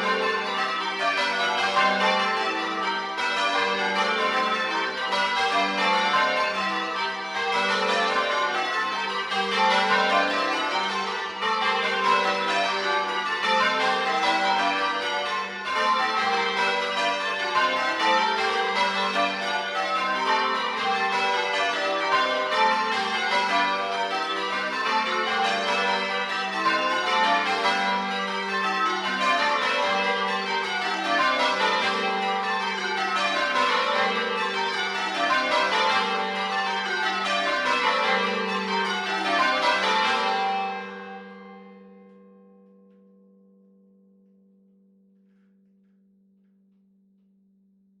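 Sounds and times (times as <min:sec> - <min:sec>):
church bells change ringing: 0:00.0 - 0:43.2.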